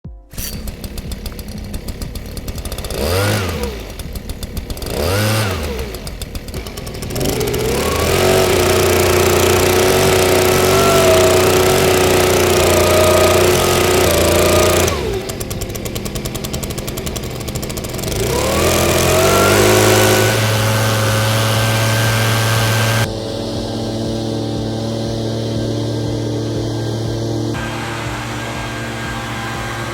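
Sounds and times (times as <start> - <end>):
leaf blower engine revving: 0.1 - 29.9.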